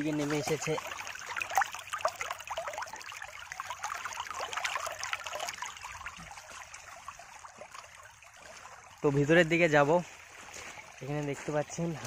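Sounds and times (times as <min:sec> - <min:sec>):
stream trickling over stones: 0:00.0 - 0:12.0.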